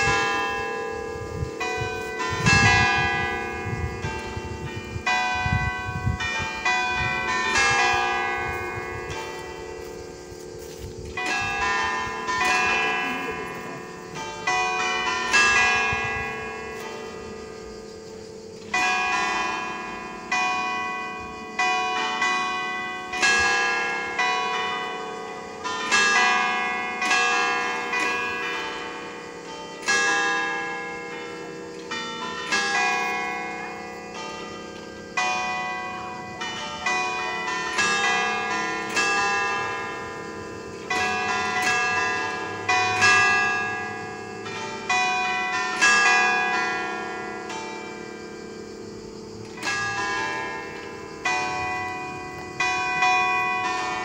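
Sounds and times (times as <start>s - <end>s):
church bells ringing a tune: 0.0s - 54.0s.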